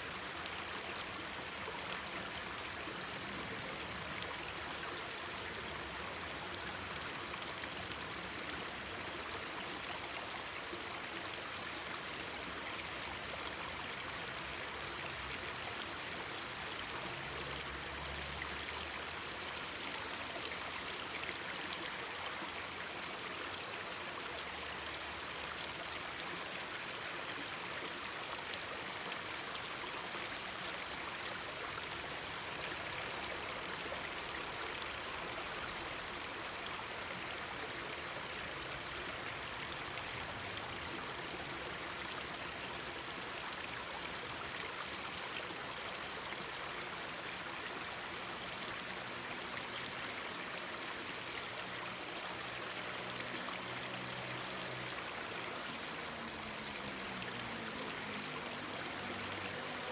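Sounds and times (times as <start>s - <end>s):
mountain stream babbling: 0.0s - 59.9s.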